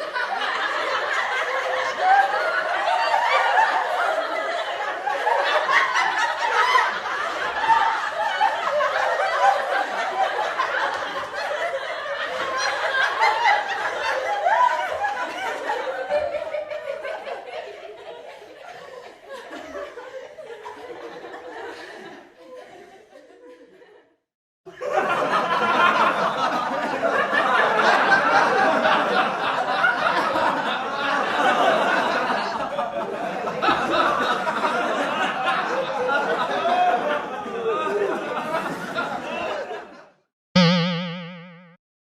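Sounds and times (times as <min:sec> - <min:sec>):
group of people laughing: 0:00.0 - 0:41.4.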